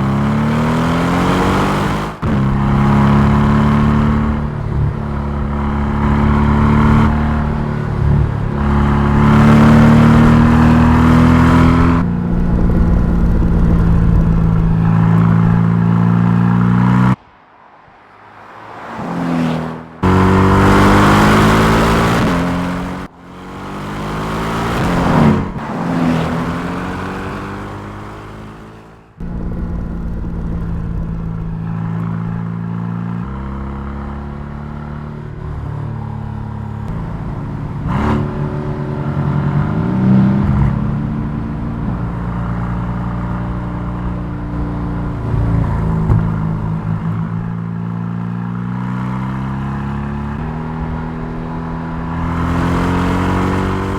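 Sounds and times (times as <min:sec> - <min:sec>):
car engine revving: 0:00.0 - 0:17.2, 0:18.4 - 0:53.9.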